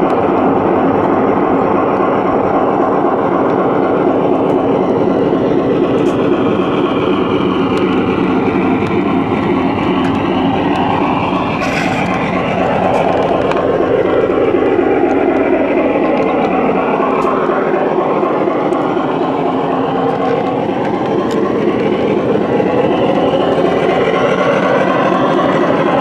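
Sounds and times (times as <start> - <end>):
model train wheels rumbling: 0.0 - 26.0.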